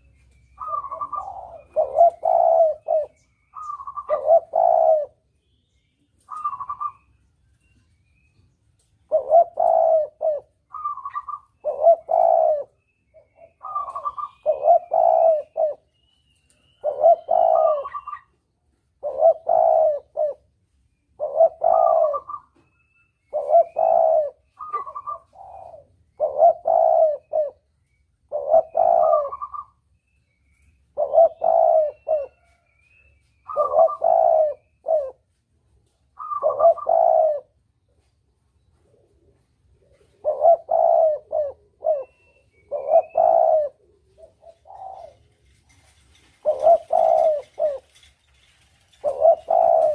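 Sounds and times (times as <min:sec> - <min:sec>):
dove cooing: 0:00.0 - 0:05.3, 0:06.2 - 0:07.1, 0:09.1 - 0:27.7, 0:28.3 - 0:29.8, 0:30.9 - 0:35.4, 0:36.1 - 0:38.0, 0:38.7 - 0:49.9.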